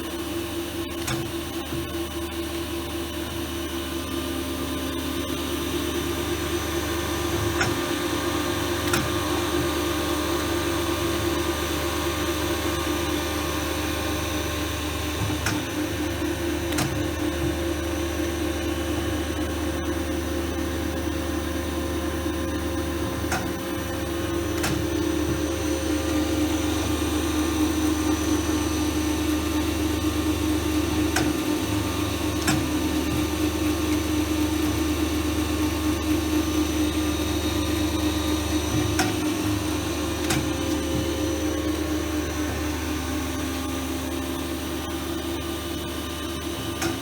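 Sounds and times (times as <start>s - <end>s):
grinding machine humming: 2.4s - 47.0s.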